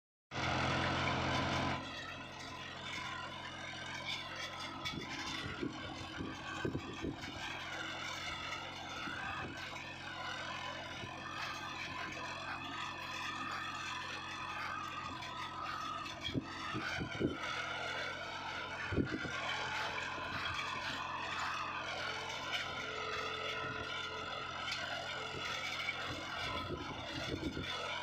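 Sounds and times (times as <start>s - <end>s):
tractor engine running: 0.3s - 28.0s.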